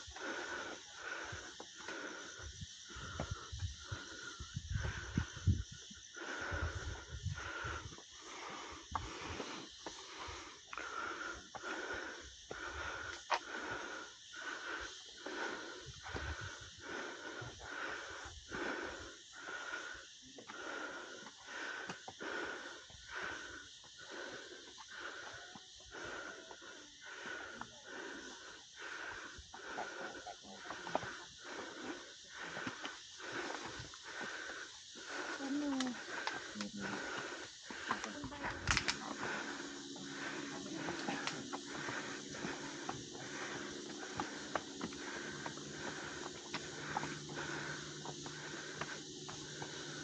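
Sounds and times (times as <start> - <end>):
person breathing heavily: 0.0 - 50.0.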